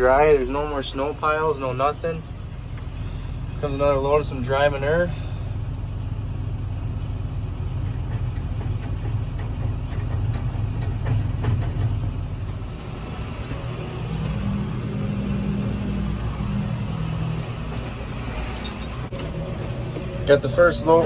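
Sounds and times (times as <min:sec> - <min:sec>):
farm machinery engine running: 0:00.0 - 0:21.0.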